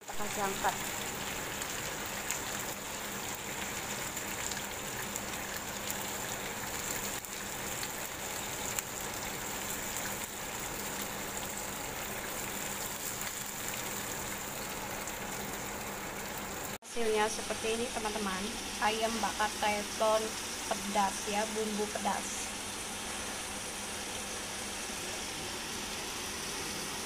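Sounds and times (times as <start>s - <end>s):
chicken sizzling in grill pan: 0.1s - 27.0s.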